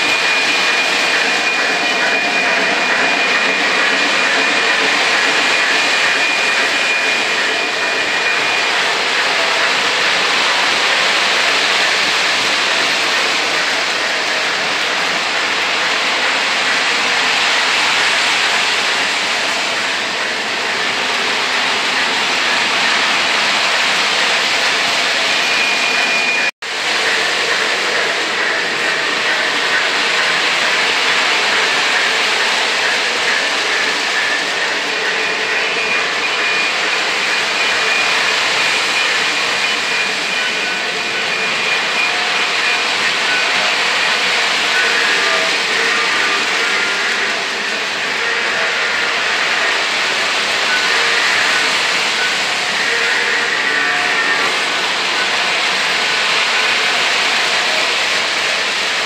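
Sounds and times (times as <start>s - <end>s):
model trains rumbling on track: 0.0s - 59.0s
thin high tone: 0.0s - 59.0s.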